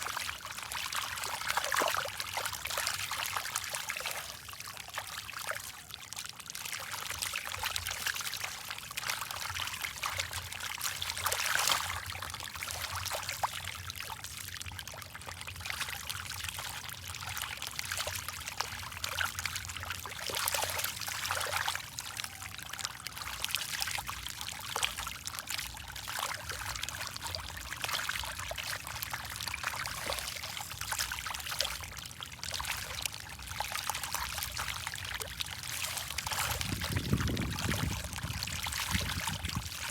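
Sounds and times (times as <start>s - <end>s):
fish splashing and slurping water: 0.0s - 39.9s.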